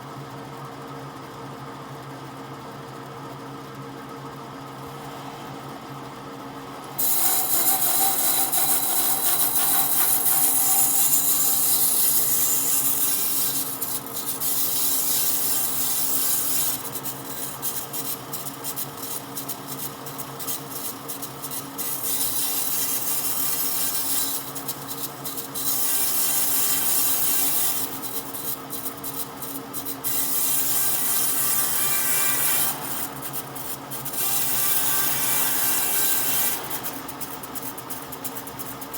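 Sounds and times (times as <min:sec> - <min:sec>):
power tool motor humming: 0:06.9 - 0:38.8
tool rasping on wood: 0:06.9 - 0:38.9.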